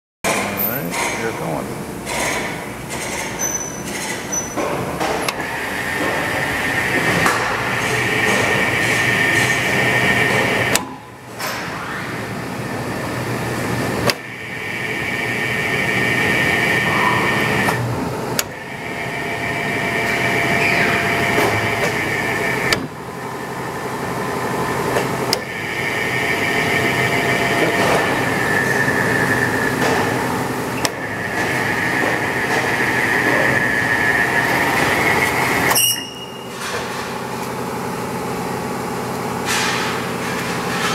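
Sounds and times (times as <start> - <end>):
lathe mechanical whine: 5.3 - 38.3.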